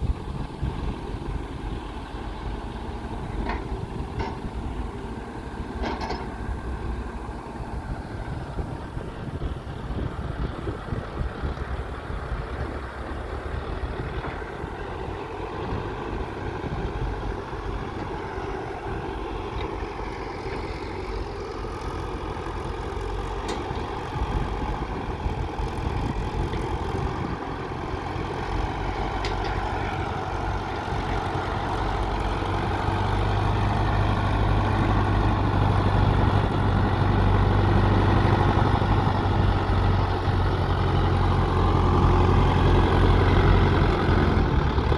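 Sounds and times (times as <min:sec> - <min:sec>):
diesel engines running: 0:00.0 - 0:44.9.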